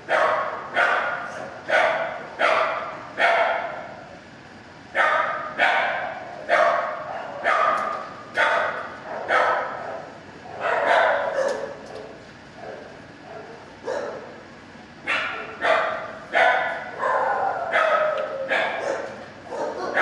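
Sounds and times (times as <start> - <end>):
dogs barking with echo: 0.0 - 4.0, 4.9 - 14.4, 15.0 - 20.0.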